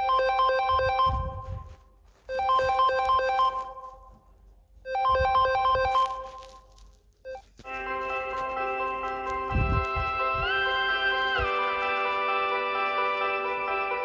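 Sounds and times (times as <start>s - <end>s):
phone ringtone melody: 0.0s - 1.5s, 2.3s - 4.0s, 4.9s - 6.5s, 7.3s - 14.0s.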